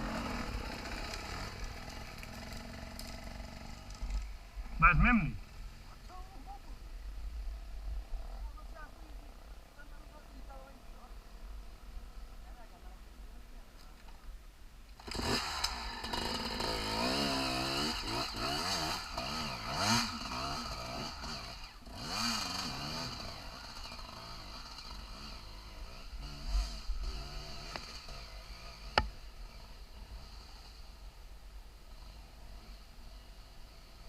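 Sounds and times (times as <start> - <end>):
motorcycle engine revving: 0.0 - 12.7, 15.0 - 31.2.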